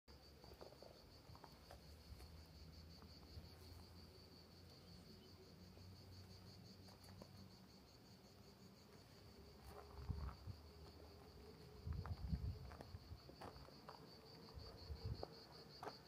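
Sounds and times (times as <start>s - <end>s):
insects chirring: 0.1s - 16.0s.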